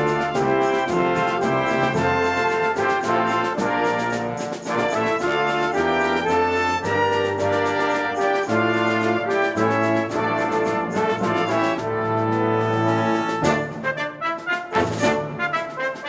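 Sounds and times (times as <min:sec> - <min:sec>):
brass chords: 0:00.0 - 0:16.0
percussion strokes: 0:00.0 - 0:16.0.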